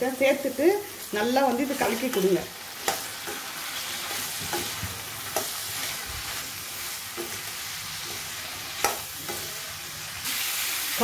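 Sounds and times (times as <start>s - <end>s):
frying sizzle: 0.0s - 11.0s.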